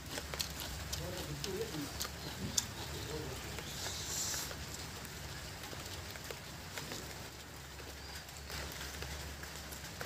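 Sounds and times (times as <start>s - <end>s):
light rain hiss: 0.0s - 10.0s.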